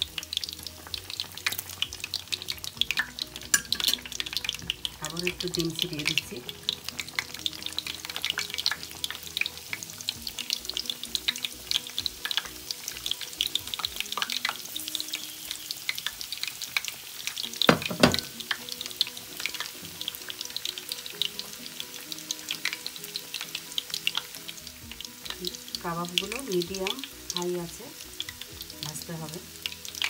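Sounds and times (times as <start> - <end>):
deep-frying crackle in hot oil: 0.0 - 30.0
egg sizzling in oil: 0.0 - 30.0.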